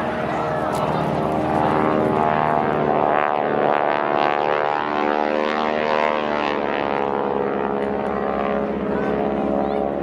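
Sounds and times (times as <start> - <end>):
biplane radial engines flying past: 0.0 - 10.0.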